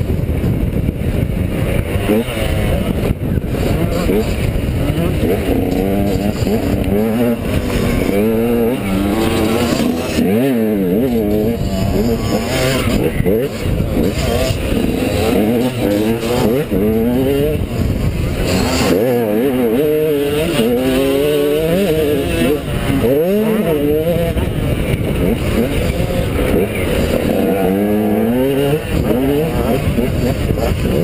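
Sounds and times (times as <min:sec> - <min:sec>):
dirt bike engine revving: 0:00.0 - 0:31.0
wind rumble on microphone: 0:00.0 - 0:31.0.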